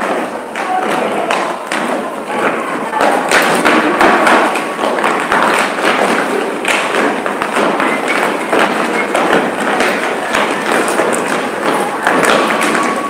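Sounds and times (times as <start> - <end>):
footsteps on wooden stage: 0.0 - 13.0.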